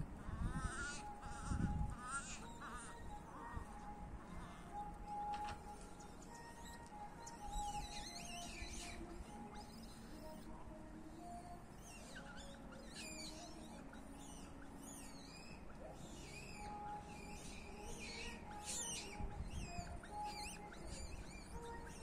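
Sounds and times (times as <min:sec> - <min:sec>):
faint background music: 0:00.0 - 0:22.0
squeaky chirping calls: 0:00.2 - 0:22.0.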